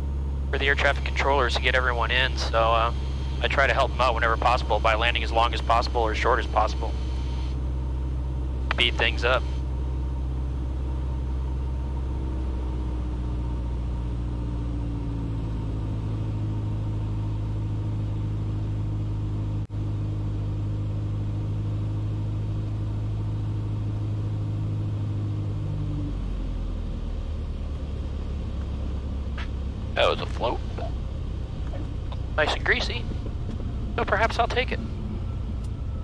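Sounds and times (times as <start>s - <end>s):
airplane engine droning: 0.0s - 36.0s.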